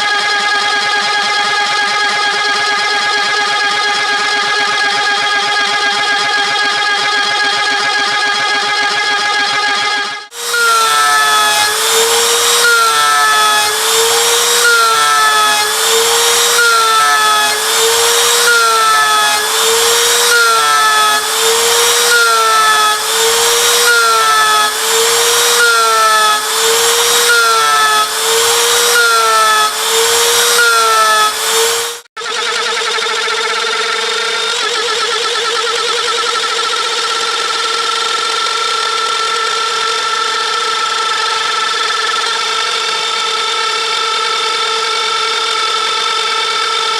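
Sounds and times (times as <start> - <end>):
router spindle cutting whine: 0.0 - 46.9.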